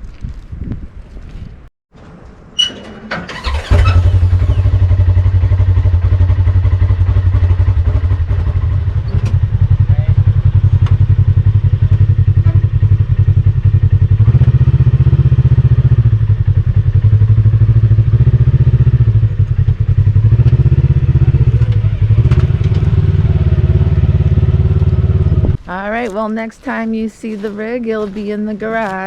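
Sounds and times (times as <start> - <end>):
utility vehicle engine running: 2.1 - 25.6.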